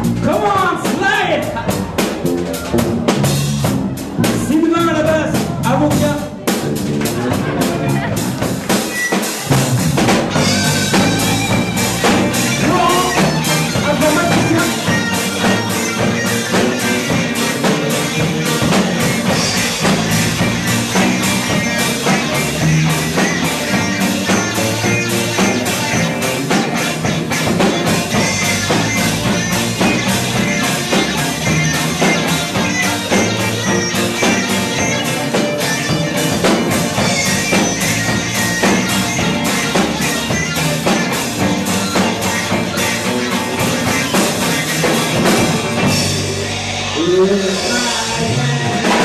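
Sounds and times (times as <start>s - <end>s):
bass guitar: 0.0s - 49.0s
drum kit: 0.0s - 49.0s
electric guitar: 0.0s - 49.0s.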